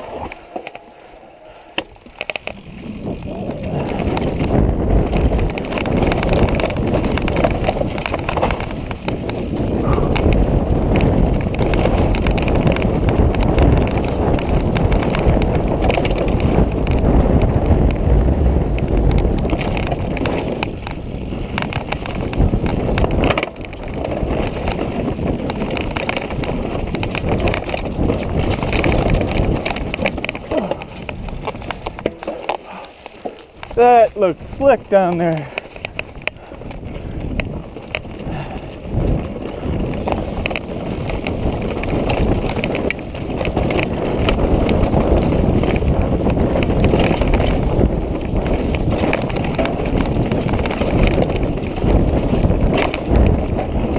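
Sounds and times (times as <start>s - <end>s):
mountain bike rattling downhill: 0.0s - 53.9s
tyres crunching over dirt and rock: 0.0s - 53.9s.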